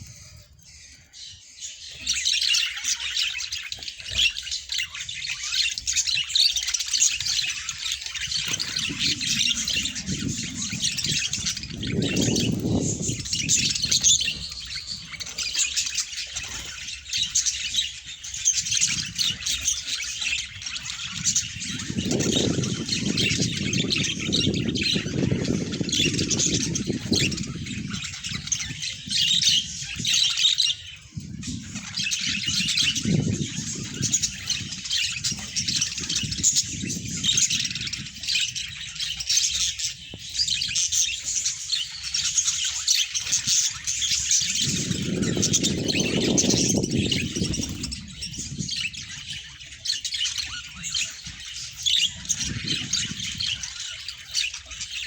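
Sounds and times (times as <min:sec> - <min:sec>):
budgerigars chattering and squawking: 0:00.0 - 0:55.0.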